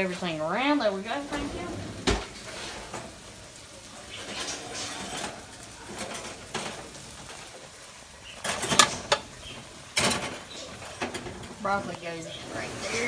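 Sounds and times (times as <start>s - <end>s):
metal pan clattering on oven rack: 0.6s - 13.0s.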